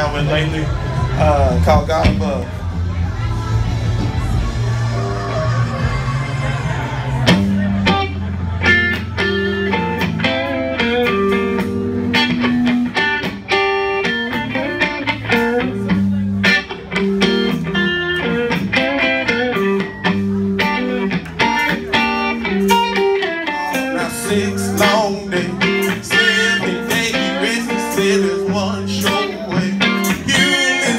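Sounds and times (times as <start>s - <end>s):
bass guitar: 0.0s - 30.9s
drums: 0.0s - 30.9s
electric guitar: 0.0s - 30.9s.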